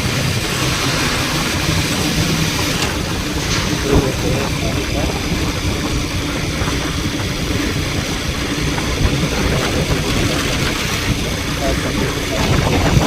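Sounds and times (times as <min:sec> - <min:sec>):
road and wind rumble: 0:00.0 - 0:13.0
vehicle engine hum: 0:00.0 - 0:13.0.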